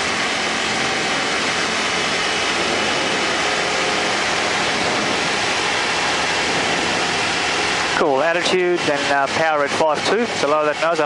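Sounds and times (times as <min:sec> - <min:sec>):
light aircraft cockpit engine hiss: 0:00.0 - 0:11.0.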